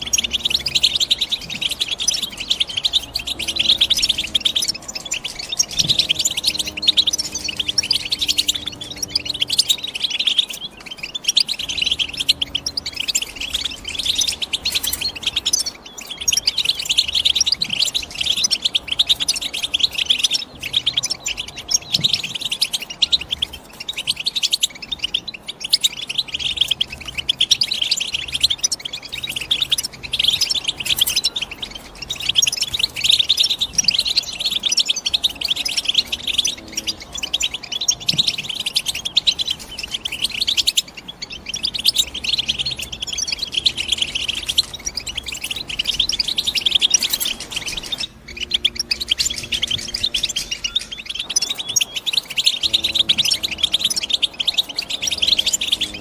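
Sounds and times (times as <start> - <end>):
goldfinch twittering song: 0.0 - 56.0.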